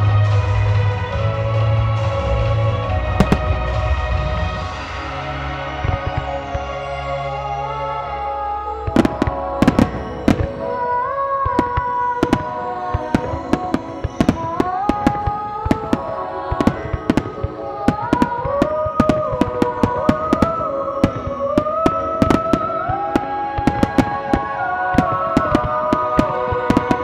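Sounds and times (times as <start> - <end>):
melodic music: 0.0 - 27.0
fireworks bangs and pops: 2.4 - 6.9, 8.8 - 27.0.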